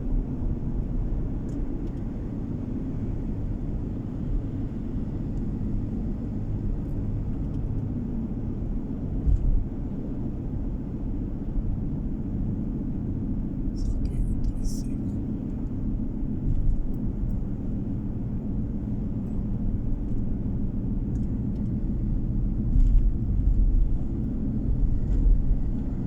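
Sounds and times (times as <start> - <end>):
car engine rumble from inside: 0.0 - 26.0.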